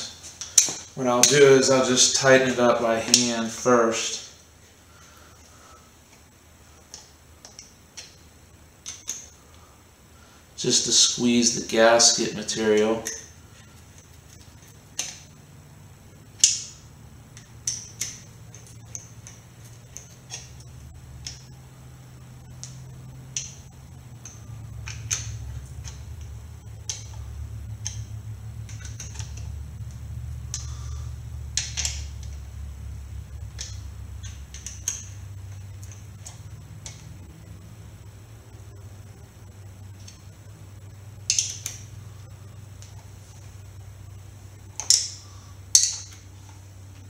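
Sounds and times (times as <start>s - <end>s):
low hum: 0.0s - 47.0s.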